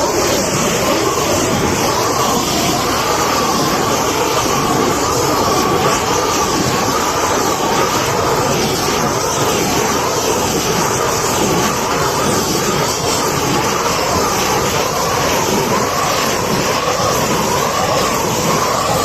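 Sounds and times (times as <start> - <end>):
torch flame roaring: 0.0 - 19.0.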